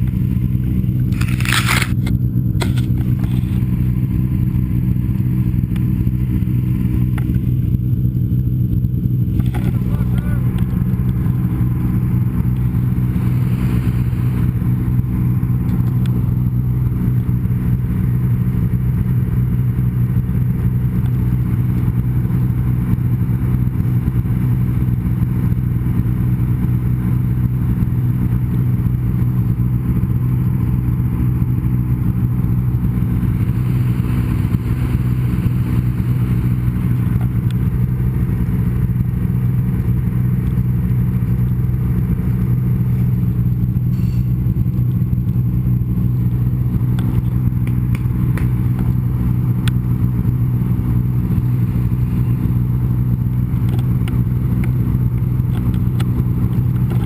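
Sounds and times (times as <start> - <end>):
snowmobile engine drone: 0.0 - 57.0.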